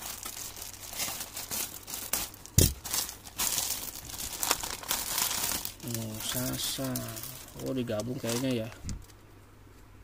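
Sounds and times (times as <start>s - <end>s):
packaging crinkling and tearing: 0.0s - 9.2s.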